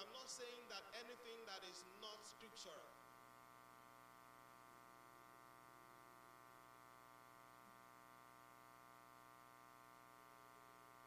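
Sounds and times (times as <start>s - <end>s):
faint electrical hum and buzz: 0.0s - 11.0s.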